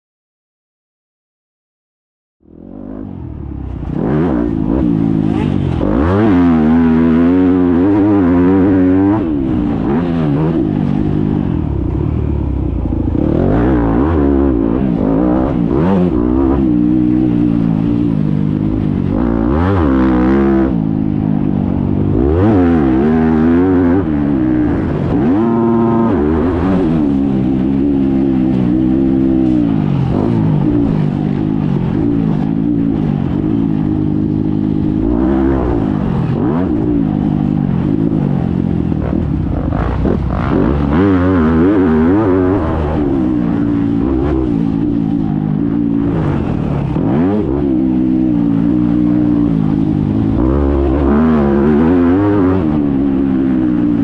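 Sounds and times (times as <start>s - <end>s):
motocross bike engine revving: 2.5s - 54.0s.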